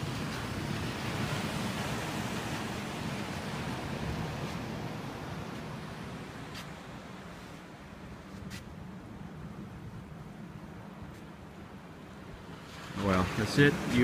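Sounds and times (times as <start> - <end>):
ocean surf washing: 0.0 - 14.0.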